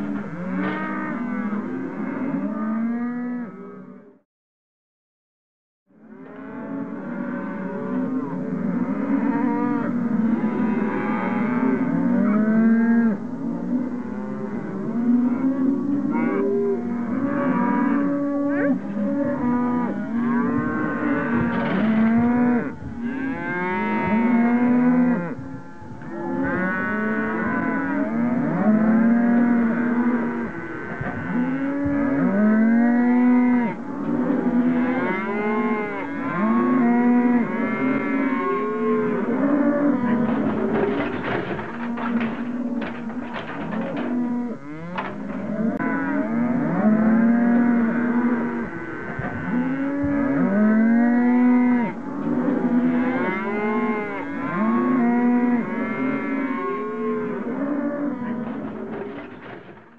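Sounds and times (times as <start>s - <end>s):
cattle mooing: 0.0s - 4.0s, 6.1s - 59.9s.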